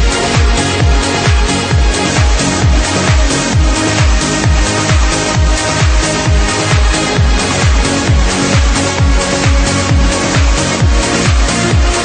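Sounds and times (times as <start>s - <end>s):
held synth chords: 0.0s - 12.0s
kick drum: 0.0s - 12.0s
trance music: 0.0s - 12.0s.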